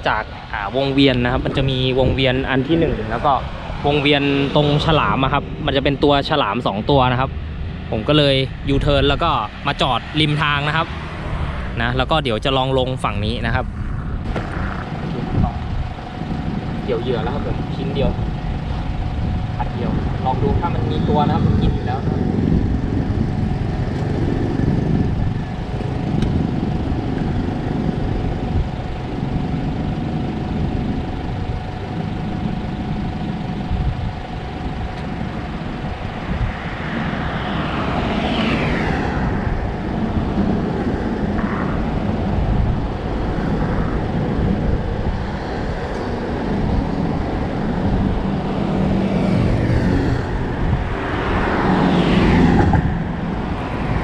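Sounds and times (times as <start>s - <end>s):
constant low rumble: 0.0s - 54.0s
vehicles passing: 0.0s - 54.0s.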